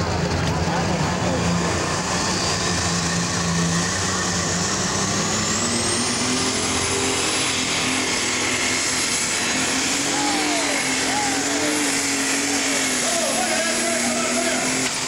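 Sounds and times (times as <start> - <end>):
diesel engine running under load: 0.0 - 15.0
high turbo whine: 0.0 - 15.0.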